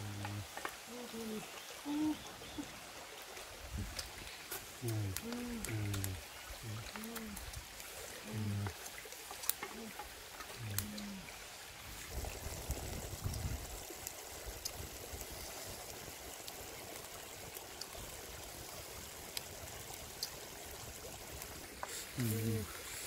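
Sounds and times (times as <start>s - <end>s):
stream running over rocks: 0.0s - 23.0s.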